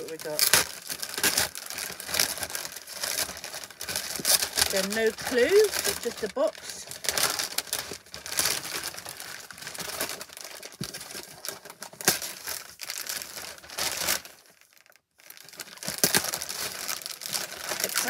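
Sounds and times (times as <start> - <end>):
wrapping paper tearing and crumpling: 0.0 - 18.0.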